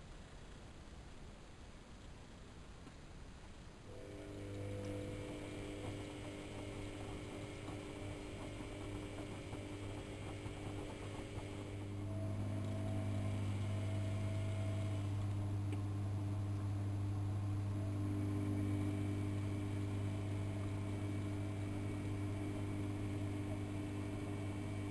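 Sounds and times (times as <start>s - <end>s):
washing machine humming: 3.8s - 24.9s.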